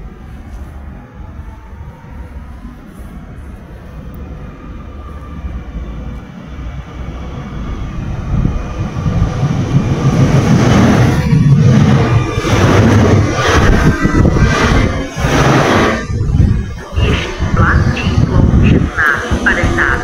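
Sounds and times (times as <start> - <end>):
diesel railcar rumbling past: 0.0 - 20.0.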